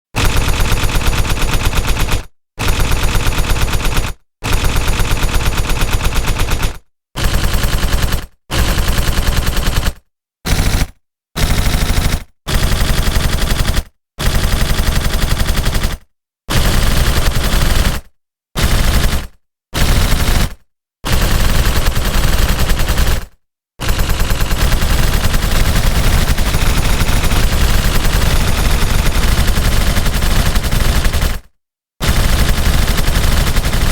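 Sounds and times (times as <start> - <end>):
machine-gun fire: 0.2 - 33.9.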